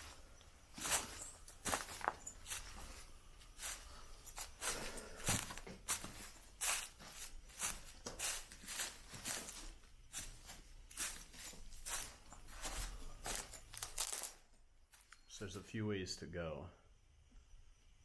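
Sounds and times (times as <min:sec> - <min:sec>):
footsteps on dry leaves: 0:00.0 - 0:15.0.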